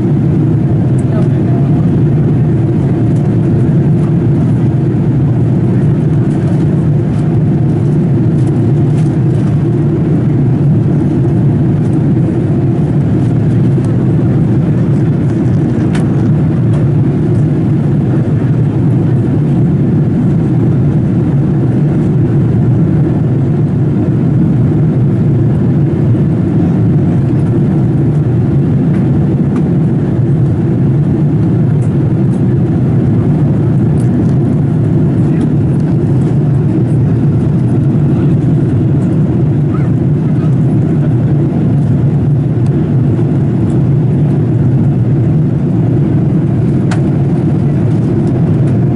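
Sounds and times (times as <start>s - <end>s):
aircraft engines droning: 0.0s - 48.9s.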